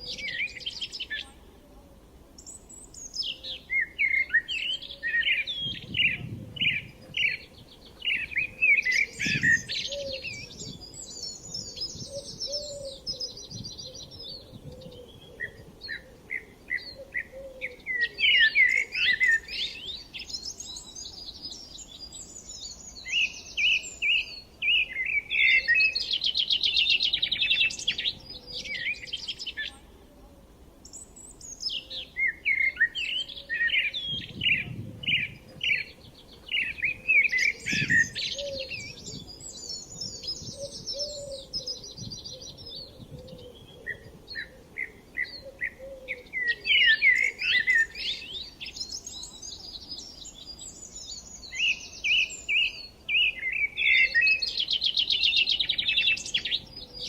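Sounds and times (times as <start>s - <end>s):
songbirds trilling: 2.4s - 29.9s, 30.8s - 57.0s.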